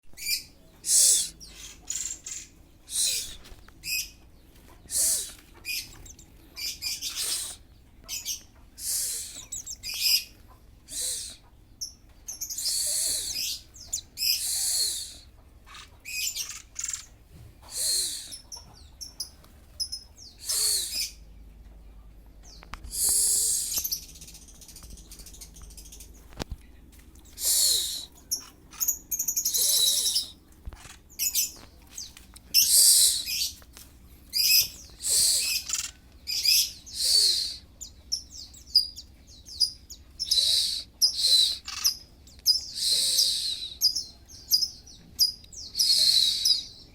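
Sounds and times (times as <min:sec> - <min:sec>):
magpie-robin calling: 0:00.2 - 0:04.2, 0:04.8 - 0:21.2, 0:22.9 - 0:24.2, 0:27.4 - 0:33.6, 0:34.3 - 0:46.8.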